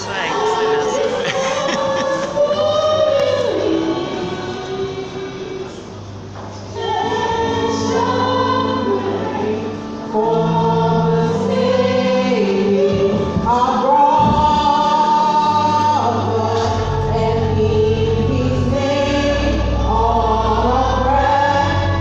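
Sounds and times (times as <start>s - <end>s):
choir singing a carol: 0.0s - 22.0s.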